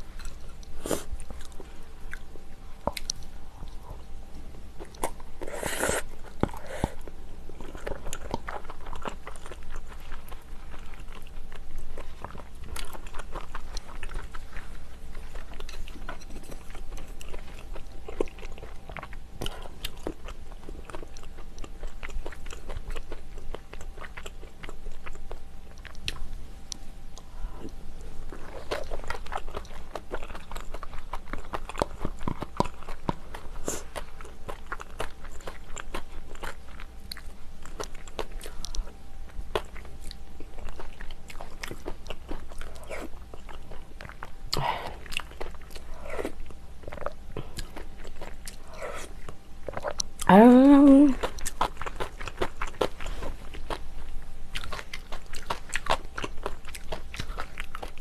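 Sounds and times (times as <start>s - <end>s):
chewing and wet mouth noises: 0.0s - 58.0s.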